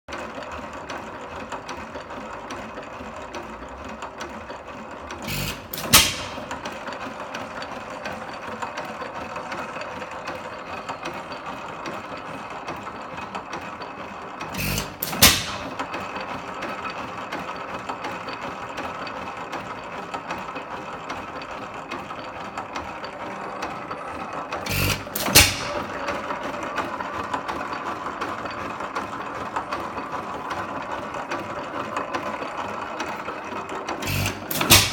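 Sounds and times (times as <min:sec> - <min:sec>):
engine valve gear clatter: 0:00.9 - 0:34.9.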